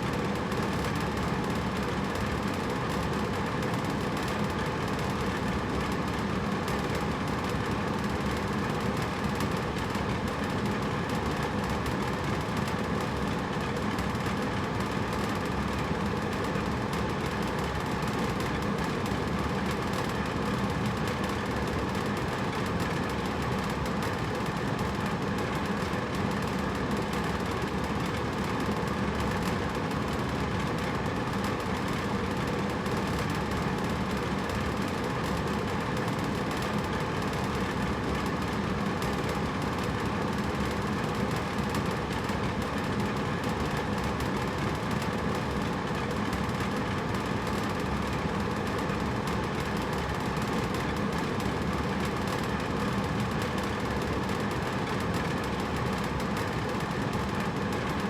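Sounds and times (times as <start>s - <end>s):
air conditioner rushing air: 0.0s - 58.0s.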